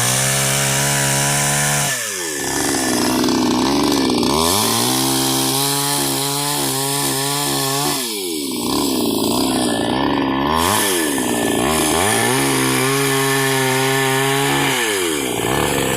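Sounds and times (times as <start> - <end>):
chainsaw revving: 0.0 - 15.9.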